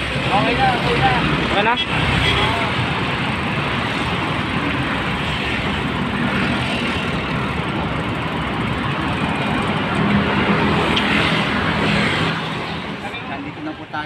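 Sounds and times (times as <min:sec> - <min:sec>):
street traffic rushing: 0:00.0 - 0:14.0
wind: 0:00.0 - 0:14.0.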